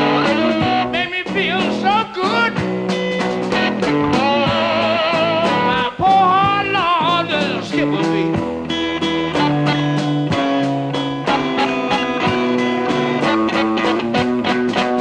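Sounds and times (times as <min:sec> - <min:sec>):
electric blues guitars: 0:00.0 - 0:15.0.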